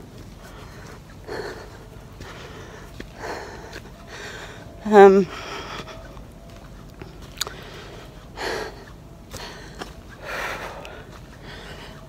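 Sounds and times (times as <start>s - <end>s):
woman breathing hard: 0.3s - 6.2s, 7.4s - 12.0s.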